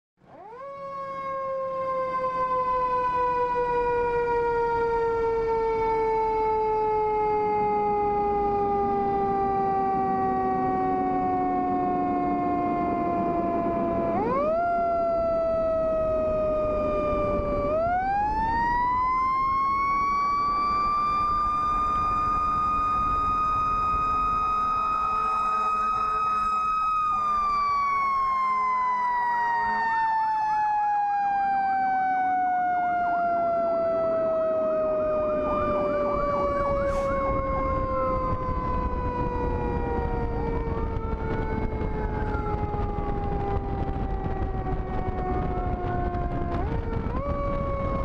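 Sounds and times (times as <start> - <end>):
mechanical siren wailing: 0.2 - 48.0.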